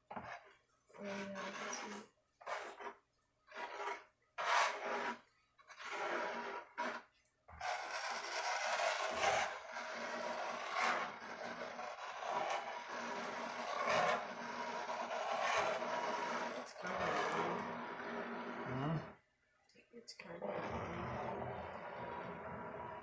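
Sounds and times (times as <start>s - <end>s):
trowel scraping a tabletop: 0.0s - 19.2s, 20.4s - 23.0s.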